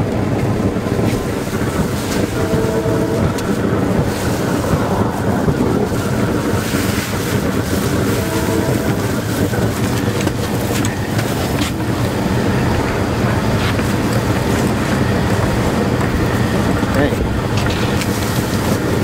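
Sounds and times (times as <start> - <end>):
roofing torch flame rushing: 0.0 - 19.0.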